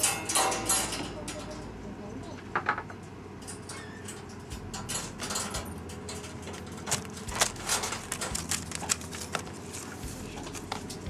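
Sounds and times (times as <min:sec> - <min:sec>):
kitten playing with toy in wire cage: 0:00.0 - 0:01.7, 0:03.4 - 0:11.0.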